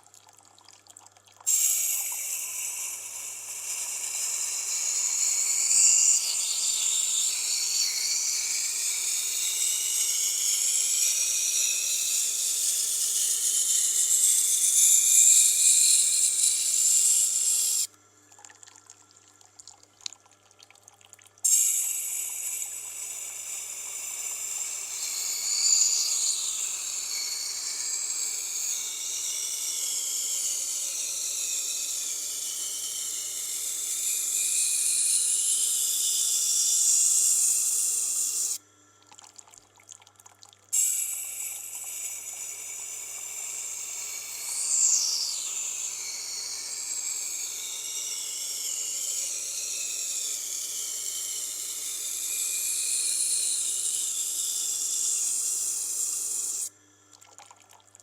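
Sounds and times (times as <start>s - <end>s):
knife scraping on grinding wheel: 1.5s - 17.9s, 21.5s - 38.6s, 40.8s - 56.7s
grinder motor hum: 1.5s - 18.0s, 21.5s - 38.6s, 40.8s - 56.7s.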